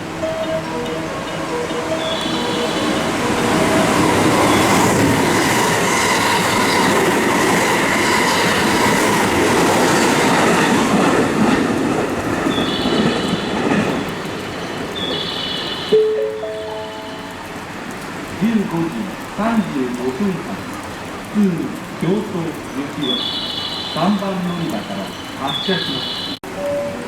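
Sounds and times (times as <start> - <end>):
train wheels rushing on rail: 0.0 - 27.0.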